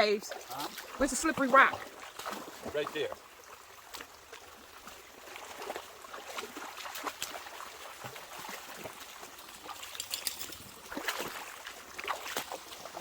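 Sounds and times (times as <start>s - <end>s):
creek water running over rocks: 0.0s - 13.0s
short water splashes: 0.0s - 13.0s.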